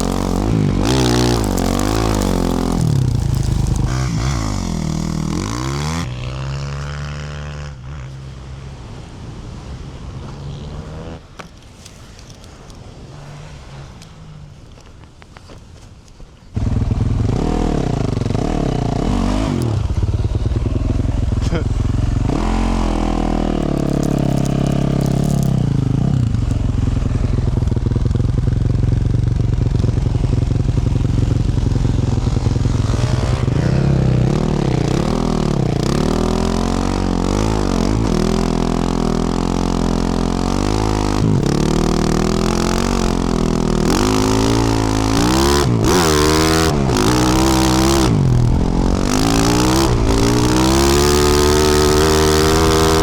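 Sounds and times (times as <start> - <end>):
dirt bike engine revving: 0.0 - 8.2, 16.6 - 53.0.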